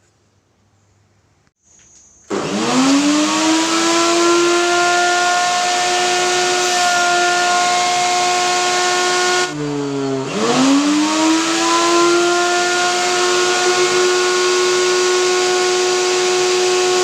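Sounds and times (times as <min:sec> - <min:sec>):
wood router motor whine: 0:02.2 - 0:17.0.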